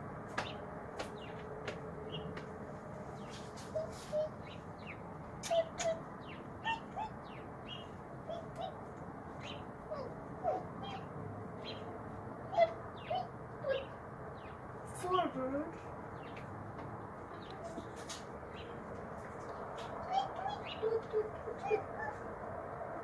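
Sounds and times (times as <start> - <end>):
flock of birds chirping: 0.2 - 23.0.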